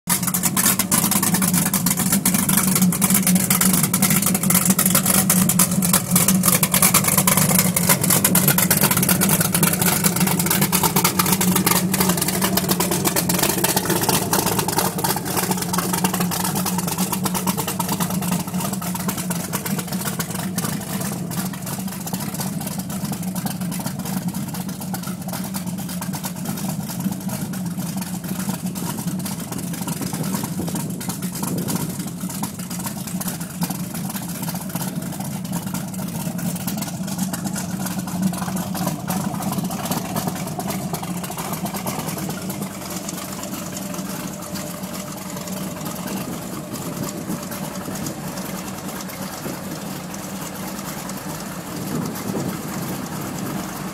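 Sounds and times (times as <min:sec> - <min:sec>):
boat engine idling: 0:00.0 - 0:53.9.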